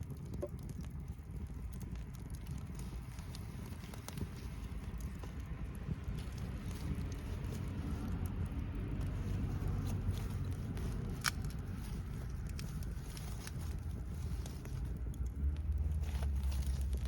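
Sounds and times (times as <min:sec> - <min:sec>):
low rumble: 0:00.0 - 0:17.0
wood fire crackling: 0:00.0 - 0:17.0.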